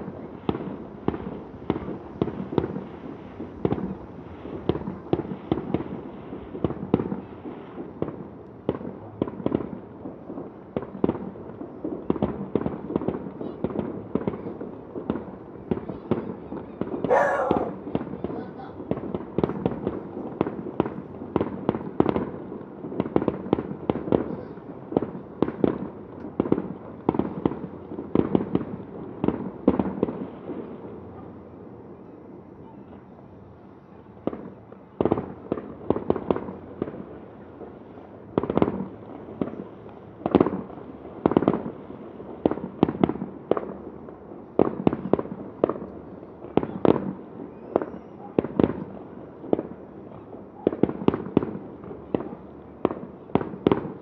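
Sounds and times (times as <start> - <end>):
fireworks bangs echoing: 0.0 - 31.2, 34.2 - 54.0.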